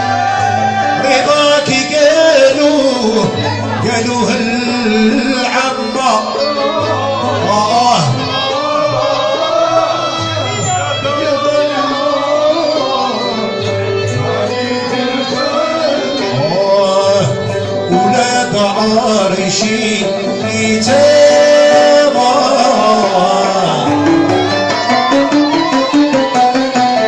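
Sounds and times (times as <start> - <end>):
bowed and plucked strings: 0.0 - 27.0
man singing: 0.0 - 27.0.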